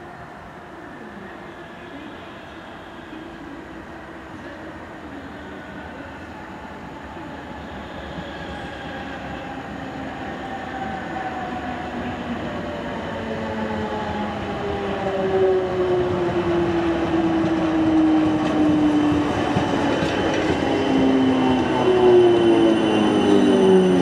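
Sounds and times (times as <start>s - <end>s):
electric train approaching: 0.0s - 24.0s.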